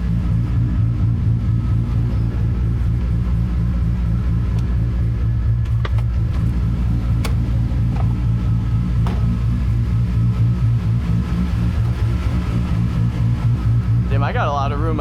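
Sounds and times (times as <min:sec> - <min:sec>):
car engine idling from inside cabin: 0:00.0 - 0:15.0.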